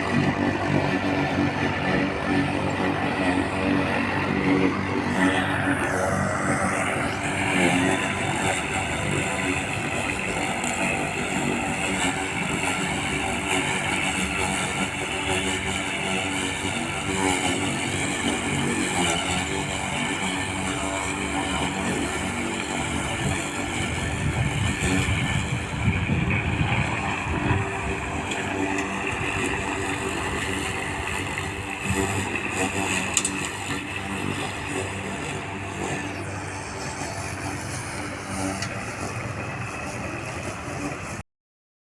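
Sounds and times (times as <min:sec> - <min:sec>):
vehicle engine running: 0:00.0 - 0:41.2.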